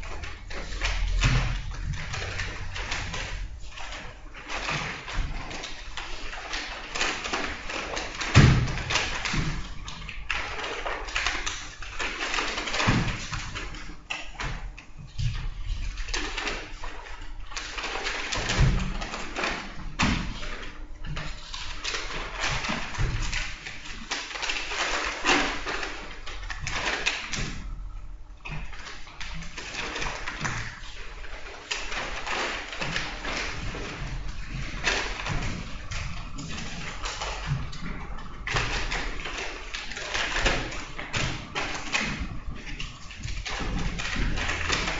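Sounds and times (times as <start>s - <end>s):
papers rustling: 0.0s - 44.9s.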